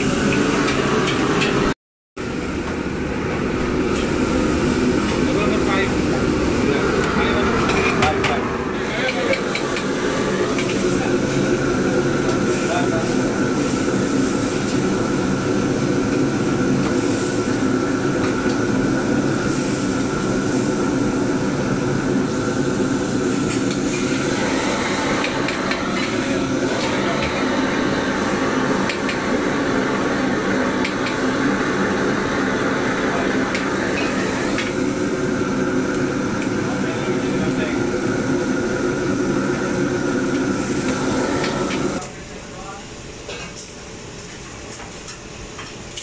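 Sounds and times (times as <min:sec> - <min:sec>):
gas burner roaring: 0:00.0 - 0:46.0.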